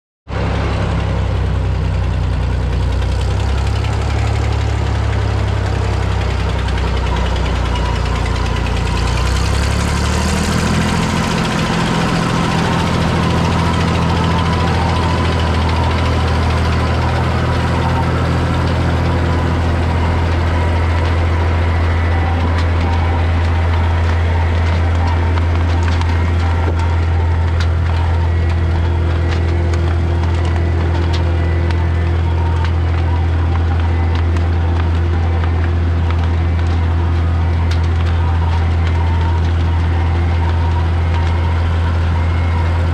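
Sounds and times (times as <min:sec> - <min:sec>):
harvester engine idling: 0:00.3 - 0:42.9.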